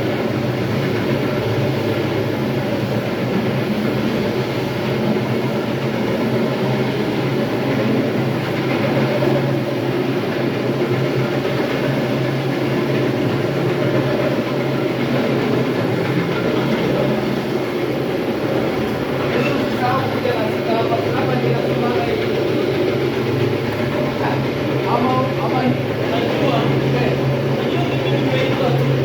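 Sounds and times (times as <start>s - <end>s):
floor grinder running: 0.0s - 29.0s.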